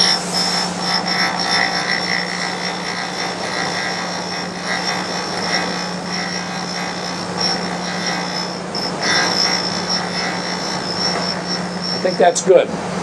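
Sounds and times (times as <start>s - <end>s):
grinding wheel hissing on steel: 0.0s - 12.7s
spindle motor hum: 0.0s - 13.0s.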